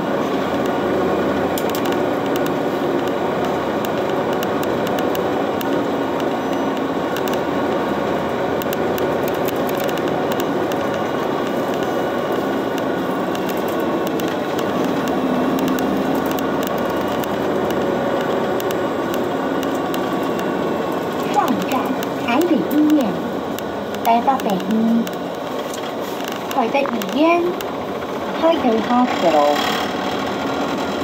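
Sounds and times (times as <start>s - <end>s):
bus engine and road drone: 0.0s - 31.0s.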